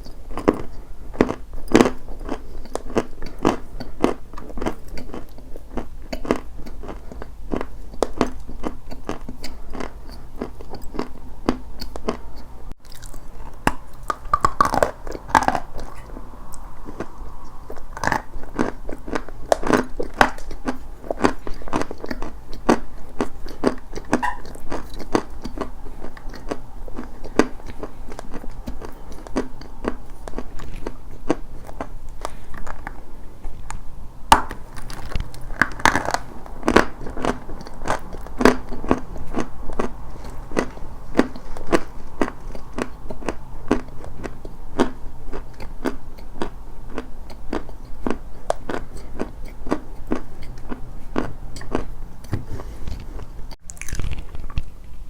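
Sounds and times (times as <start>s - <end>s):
chalk crunching while chewed: 0.0s - 54.8s.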